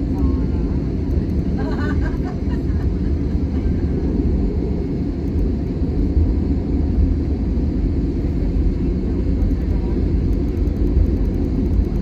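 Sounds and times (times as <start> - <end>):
aircraft engines low rumble: 0.0 - 12.0.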